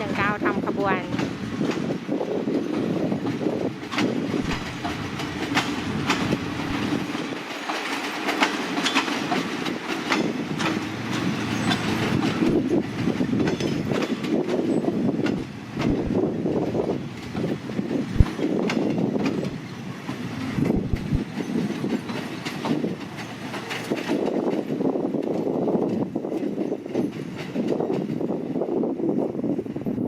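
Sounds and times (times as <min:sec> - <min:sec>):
train wheels clicking over rail joints: 0:00.0 - 0:29.9
train rumble: 0:00.0 - 0:30.0.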